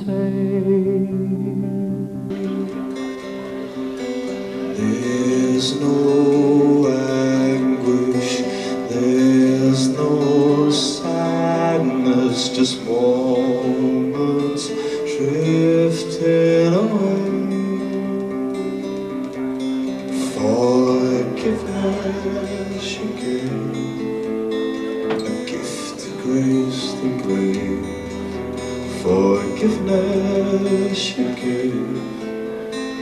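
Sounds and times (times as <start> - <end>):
plucked guitar: 0.0 - 33.0
man singing into a microphone: 4.7 - 33.0.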